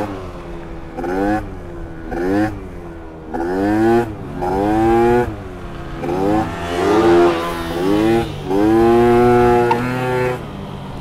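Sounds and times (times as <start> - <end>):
scooter engine revving: 0.0 - 11.0
second motorbike running: 0.0 - 11.0.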